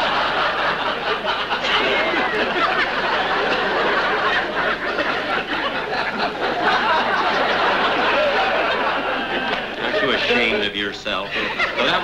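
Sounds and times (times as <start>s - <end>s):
studio audience laughing: 0.0s - 12.0s.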